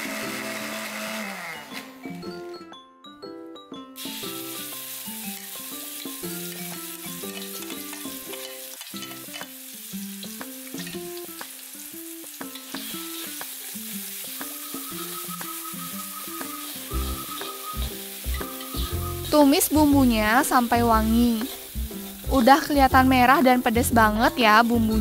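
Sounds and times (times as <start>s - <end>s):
background music: 0.0s - 25.0s
paste sizzling in hot oil: 4.0s - 25.0s.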